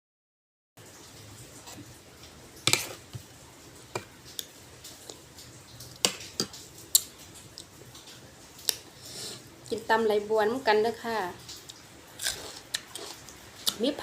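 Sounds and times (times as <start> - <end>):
faint steady hiss: 0.8 - 14.0.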